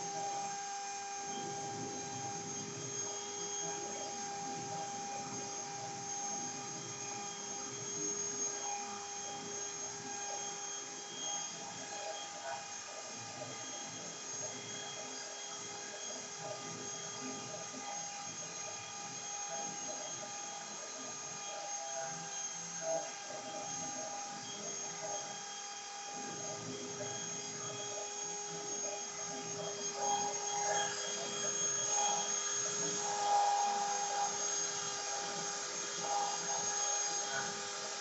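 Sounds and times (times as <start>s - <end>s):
cnc router running: 0.0s - 38.0s.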